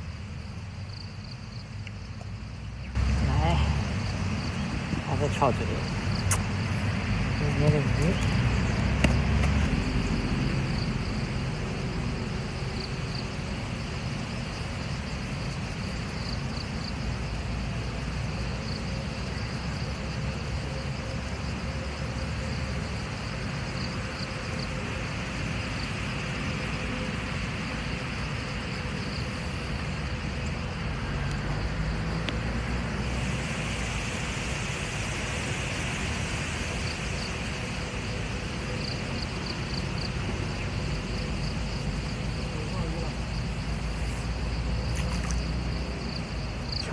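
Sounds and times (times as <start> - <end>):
insect chirping: 0.0 - 46.9
outdoor rumble and hiss: 0.0 - 46.9.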